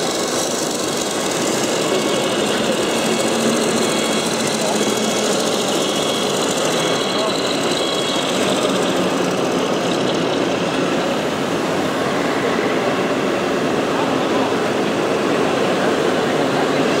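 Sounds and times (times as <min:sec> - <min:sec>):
continuous rumbling noise: 0:00.0 - 0:17.0
din of many voices: 0:00.0 - 0:17.0.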